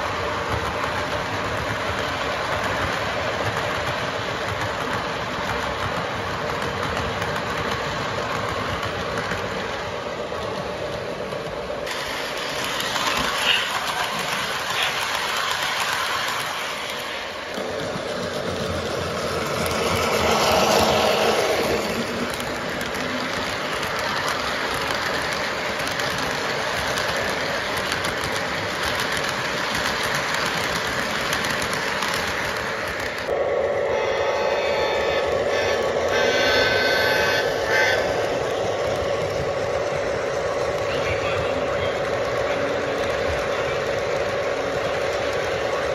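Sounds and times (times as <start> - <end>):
model train rolling on track: 0.0 - 45.9.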